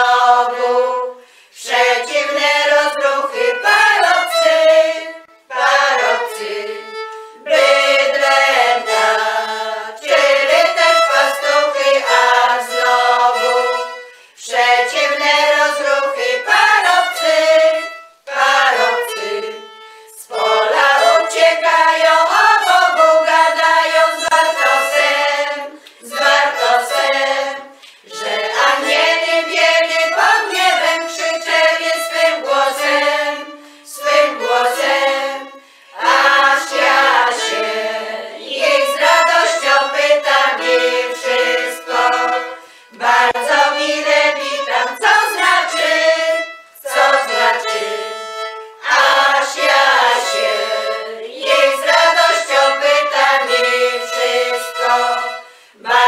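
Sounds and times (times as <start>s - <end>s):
violin: 0.0s - 56.0s
women's choir singing a carol: 0.0s - 56.0s.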